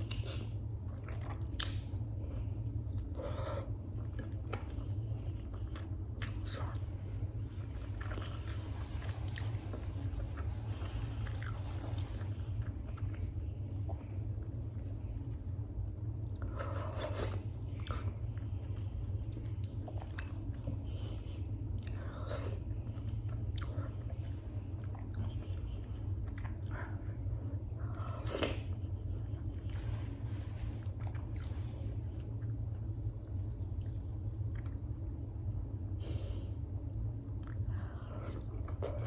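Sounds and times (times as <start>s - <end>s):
person chewing food: 0.0s - 15.0s, 16.2s - 35.2s
low hum: 0.0s - 39.0s.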